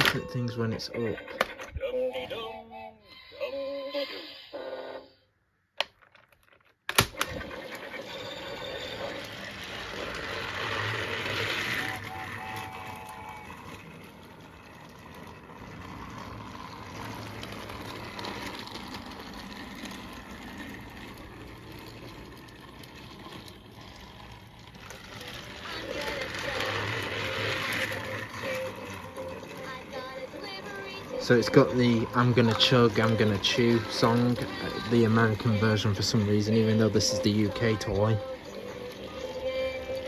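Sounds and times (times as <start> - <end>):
wheels clattering on plastic track: 0.0 - 2.8, 5.8 - 40.0
toy train motor running: 0.0 - 5.3, 7.0 - 40.0.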